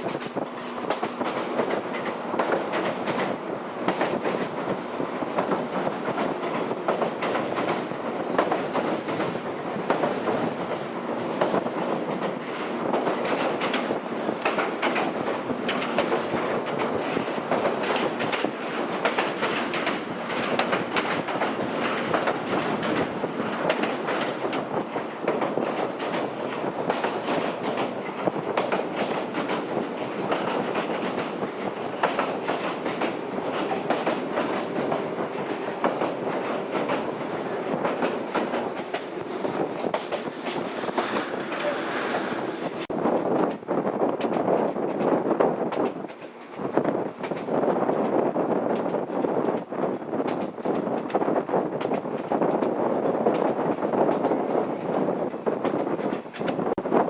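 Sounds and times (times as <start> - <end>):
wheel clicks over rail joints: 0.0 - 54.4
electric train rumbling: 0.0 - 57.0.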